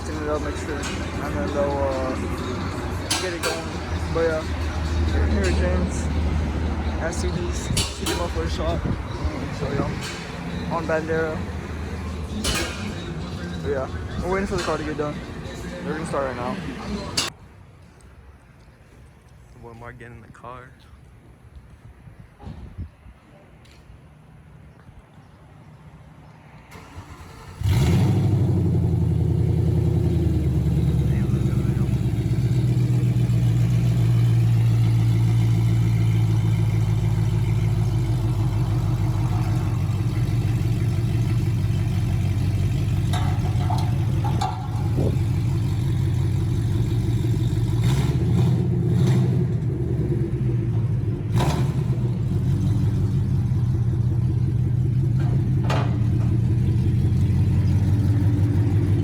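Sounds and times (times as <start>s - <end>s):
car engine idling: 0.0s - 17.3s, 26.7s - 59.0s.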